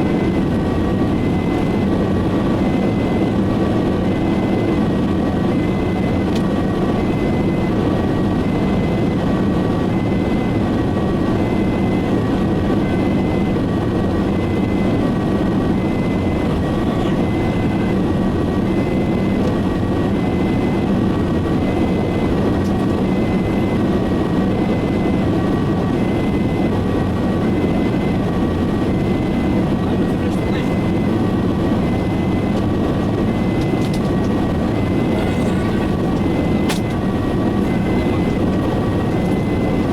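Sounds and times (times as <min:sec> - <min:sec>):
two-tone emergency siren: 0:00.0 - 0:39.9
vehicle engine and road noise: 0:00.0 - 0:39.9.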